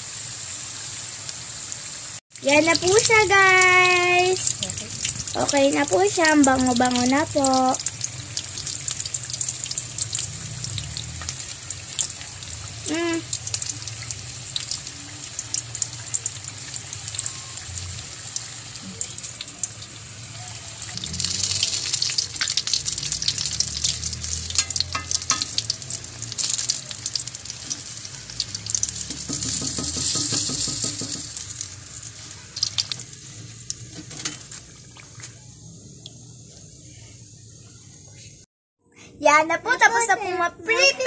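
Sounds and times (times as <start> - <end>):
food frying in hot oil: 0.0 - 38.3.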